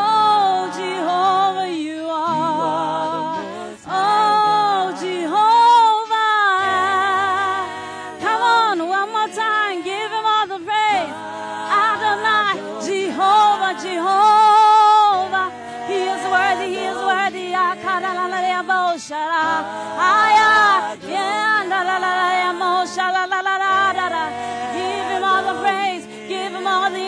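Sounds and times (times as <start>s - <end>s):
backing singers in harmony: 0.0s - 27.0s
woman singing lead: 0.0s - 27.0s.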